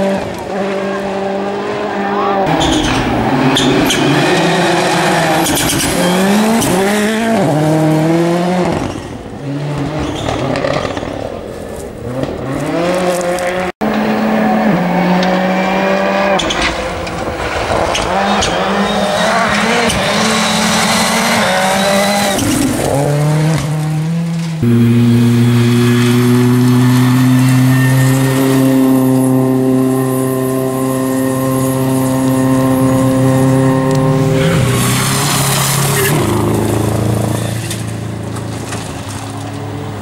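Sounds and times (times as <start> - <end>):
rally car engine accelerating hard: 0.0 - 11.1, 12.0 - 40.0.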